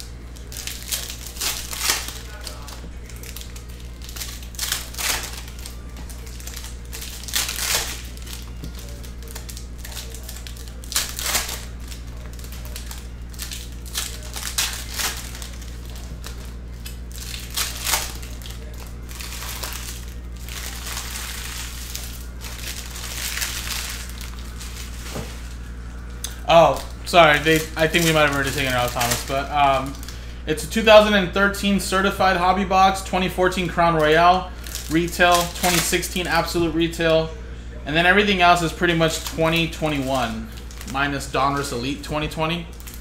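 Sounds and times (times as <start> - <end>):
packaging crinkling and tearing: 0.0 - 30.2, 33.4 - 36.5, 38.1 - 43.0
low hum: 0.0 - 43.0.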